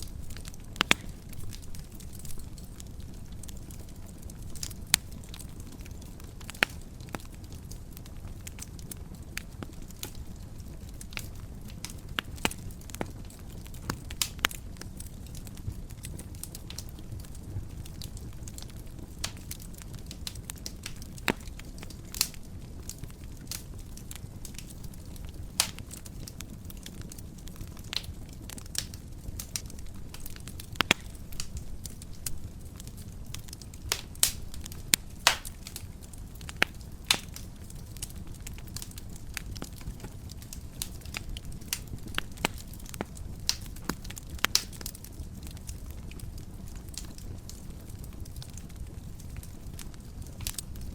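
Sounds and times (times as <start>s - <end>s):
fire pops and snaps: 0.0s - 50.9s
wood fire crackling: 0.0s - 50.9s.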